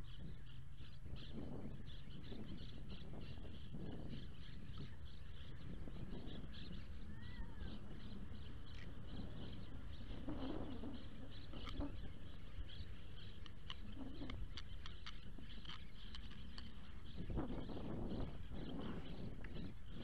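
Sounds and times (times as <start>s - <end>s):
bird chirping rapidly: 0.0s - 20.0s
wind rumbling on microphone: 0.0s - 20.0s.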